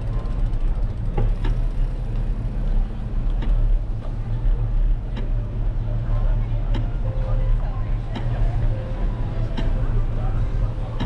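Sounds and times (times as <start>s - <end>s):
wind and road rumble: 0.0s - 11.0s.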